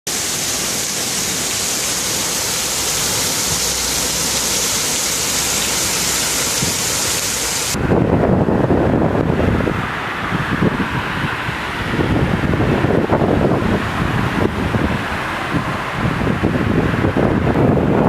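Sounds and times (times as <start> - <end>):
heavy rain pouring: 0.0 - 18.0
rough rushing noise: 0.1 - 18.0
wind buffeting microphone: 1.6 - 18.0.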